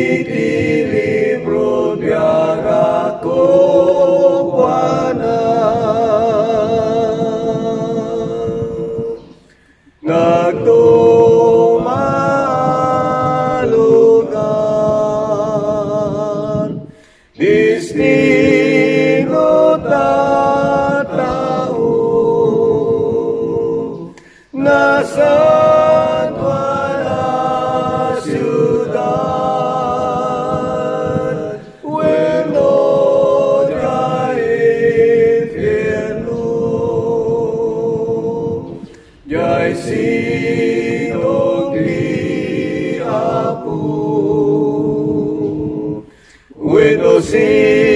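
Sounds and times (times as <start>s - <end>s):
a cappella choir singing a hymn: 0.0s - 47.9s.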